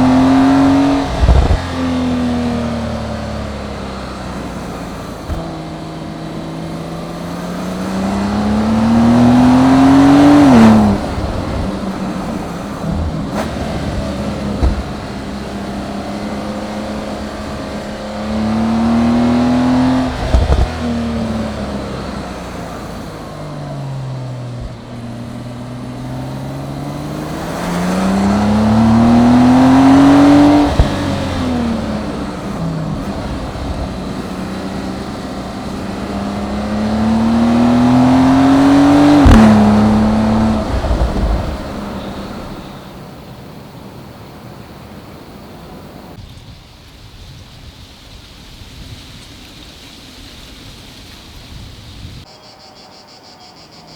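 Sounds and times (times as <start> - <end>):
car engine accelerating: 0.0 - 46.2.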